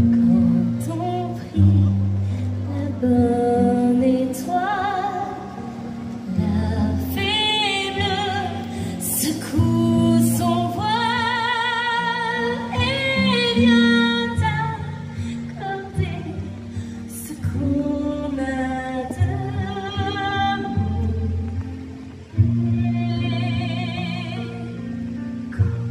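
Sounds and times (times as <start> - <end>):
woman singing with vibrato: 0.0 - 25.2.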